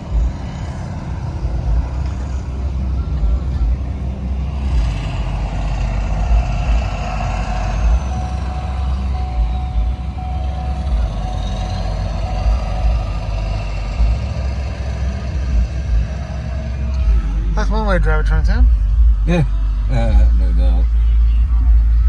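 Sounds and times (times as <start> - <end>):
steady whine: 0.0 - 22.0
vehicle engine rumbling: 0.0 - 22.0.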